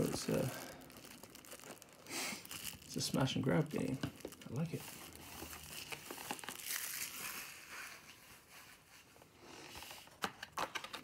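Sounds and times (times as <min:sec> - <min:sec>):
rustling of card and paper: 0:00.0 - 0:11.0.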